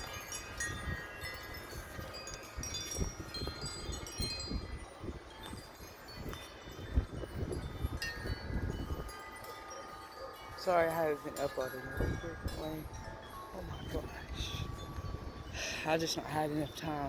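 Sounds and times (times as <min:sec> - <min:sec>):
wind chime ringing: 0:00.0 - 0:17.0
wind gusts rumbling: 0:00.0 - 0:17.0.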